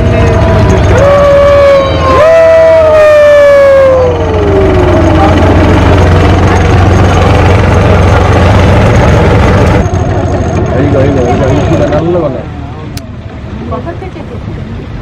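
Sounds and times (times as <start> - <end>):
boat engine running: 0.0 - 15.0
water noise: 0.0 - 15.0
wind: 0.0 - 15.0.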